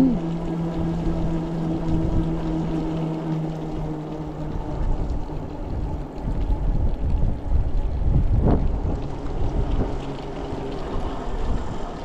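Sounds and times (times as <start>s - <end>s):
electric motor whine: 0.0s - 12.0s
tyres swishing on wet pavement: 0.8s - 12.0s.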